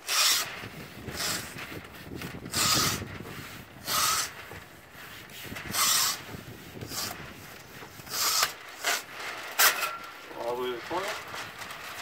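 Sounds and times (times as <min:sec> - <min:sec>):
masking tape pulled off roll: 0:00.0 - 0:12.0.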